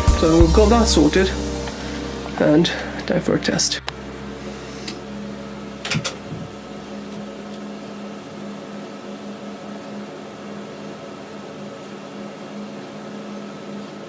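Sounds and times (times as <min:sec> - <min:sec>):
electrical hum from speakers: 0:00.0 - 0:14.0.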